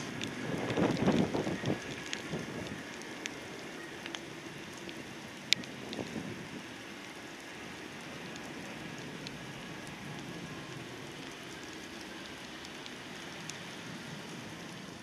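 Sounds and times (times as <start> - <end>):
small drip ticks: 0.0 - 15.0
steady rain: 0.0 - 15.0.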